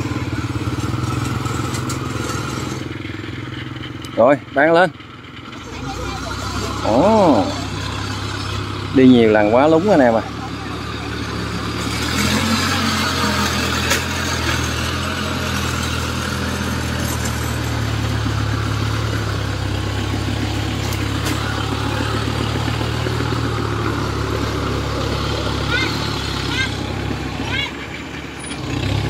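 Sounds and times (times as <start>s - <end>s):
cart engine running: 0.0s - 29.0s.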